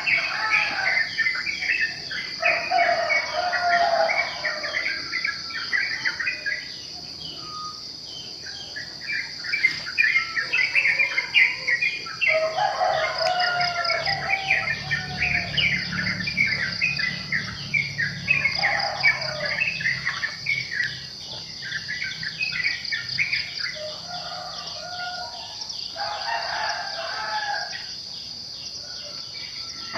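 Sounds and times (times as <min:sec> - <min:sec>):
birds chirping and singing: 0:00.0 - 0:29.9
high insect drone: 0:00.0 - 0:29.9.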